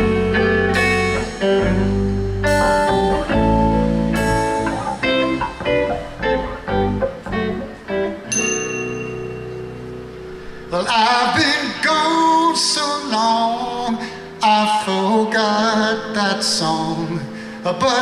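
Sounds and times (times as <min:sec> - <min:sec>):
bass: 0:00.0 - 0:18.0
guitar playing: 0:00.0 - 0:18.0.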